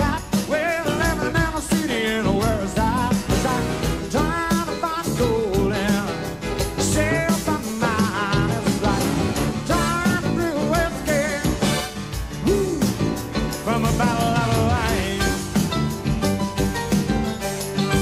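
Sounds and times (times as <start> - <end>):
person singing lead vocals: 0.0 - 16.0
live rock and roll band: 0.0 - 18.0.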